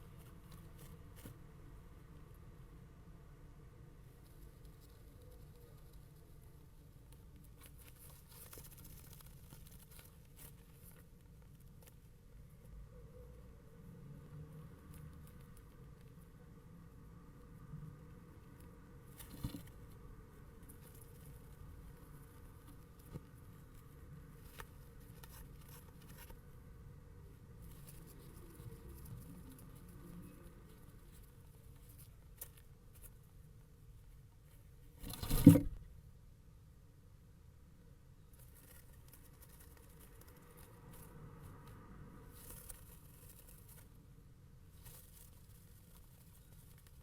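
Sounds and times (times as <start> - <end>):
faint scratching and rustling: 0.0 - 2.9, 3.6 - 36.1, 37.7 - 47.0.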